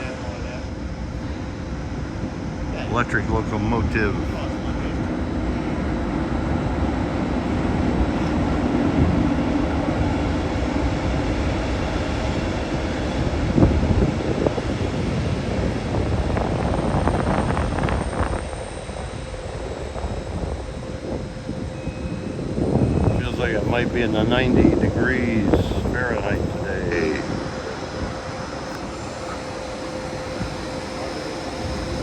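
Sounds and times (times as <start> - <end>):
electric locomotive rumble and hum: 0.0 - 32.0.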